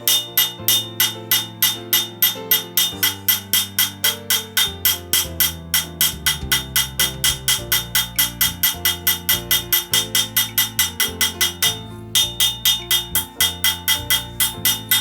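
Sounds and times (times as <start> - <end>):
background music with bass line: 0.0 - 15.0
hammer blows on anvil: 0.0 - 15.0.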